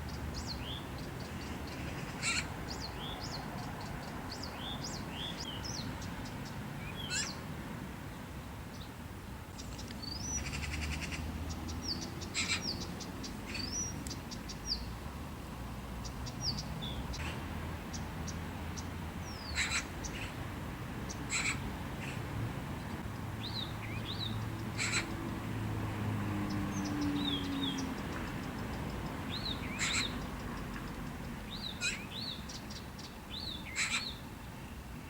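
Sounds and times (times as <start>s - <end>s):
birds calling: 0.0s - 7.4s, 9.6s - 15.0s, 16.0s - 20.4s, 21.1s - 25.3s, 26.3s - 34.8s.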